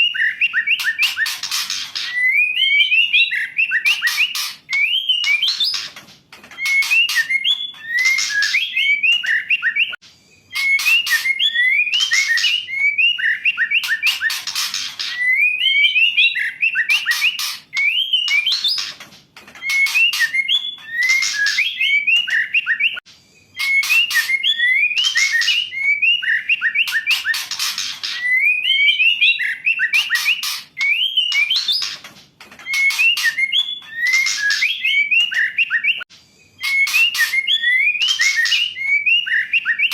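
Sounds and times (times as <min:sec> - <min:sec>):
bird whistled song with rasping clicks: 0:00.0 - 0:39.9.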